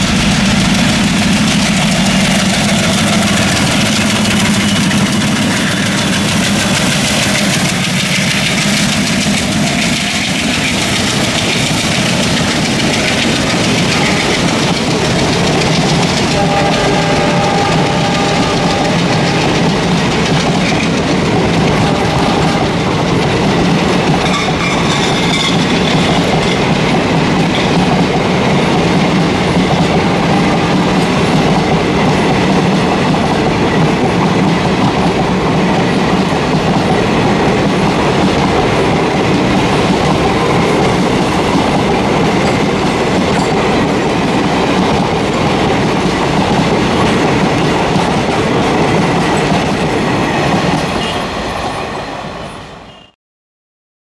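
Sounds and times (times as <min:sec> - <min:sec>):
train wheels clattering on rails: 0:00.0 - 0:52.9.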